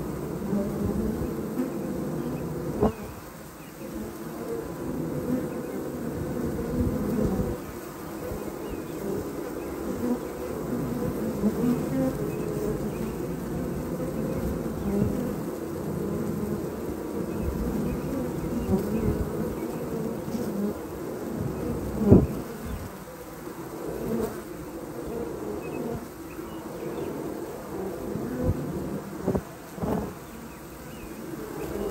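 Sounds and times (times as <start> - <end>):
honey bees buzzing: 0.0 - 31.9.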